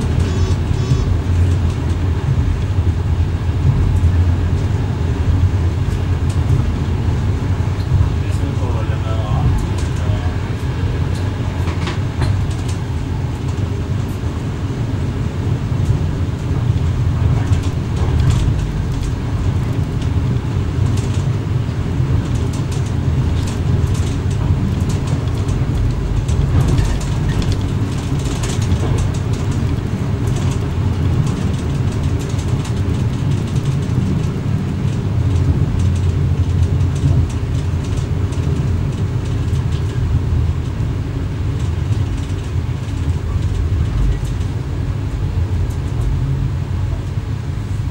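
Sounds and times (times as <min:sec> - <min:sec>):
train cab rumble: 0:00.0 - 0:47.9.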